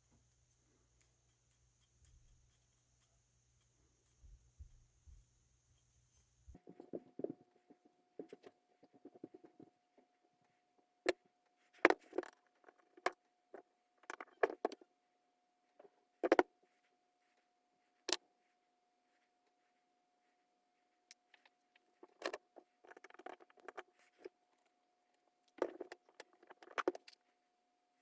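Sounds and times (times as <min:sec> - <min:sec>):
faint steady tone: 0:00.0 - 0:28.0.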